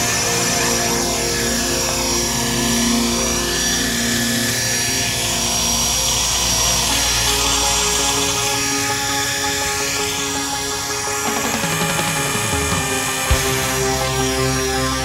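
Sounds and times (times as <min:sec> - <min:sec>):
electric motor and rotor whine: 0:00.0 - 0:15.0.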